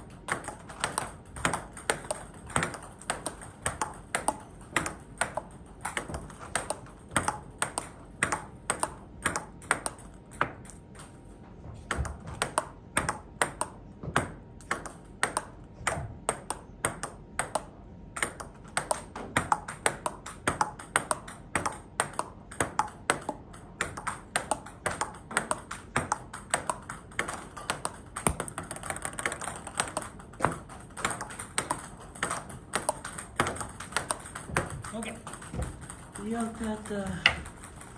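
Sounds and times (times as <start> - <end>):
table tennis ball knocking: 0.0 - 37.9.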